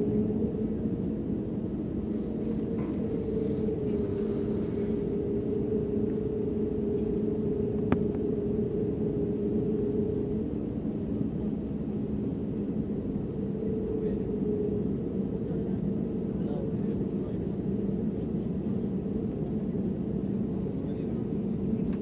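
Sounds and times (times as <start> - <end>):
jet engines idling: 0.0 - 22.0.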